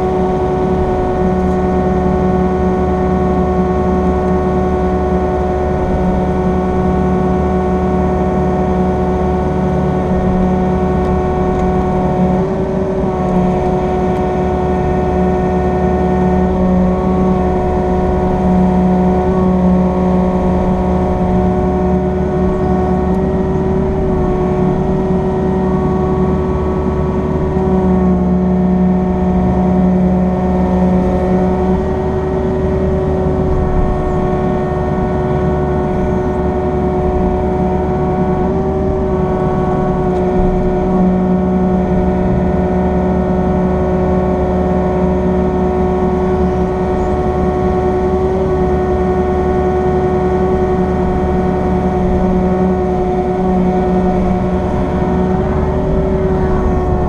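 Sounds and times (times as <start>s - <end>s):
deep hydraulic hum: 0.0s - 57.0s
excavator engine running: 0.0s - 57.0s
hydraulic whine: 0.0s - 57.0s.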